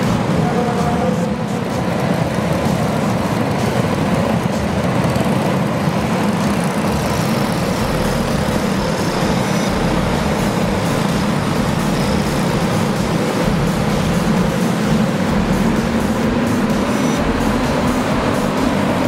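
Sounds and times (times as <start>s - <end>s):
kart engines droning: 0.0s - 19.0s.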